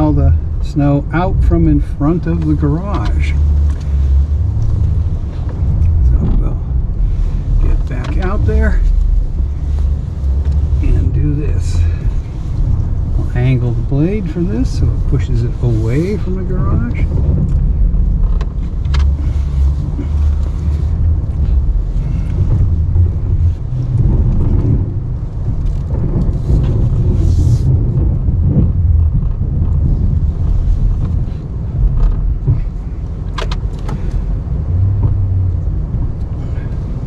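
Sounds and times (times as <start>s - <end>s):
truck engine rumbling under load: 0.0s - 37.0s.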